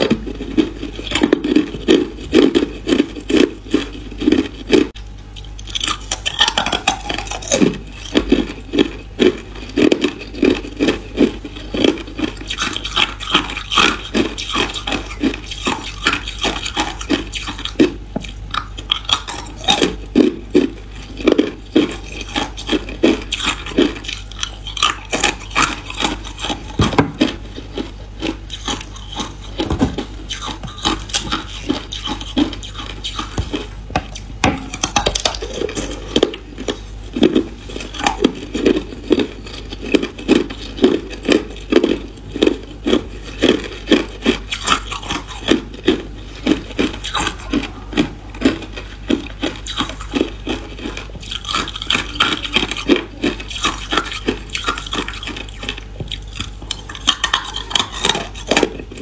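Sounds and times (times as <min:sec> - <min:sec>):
ice cubes crunching: 0:00.0 - 0:33.7, 0:34.7 - 0:58.9.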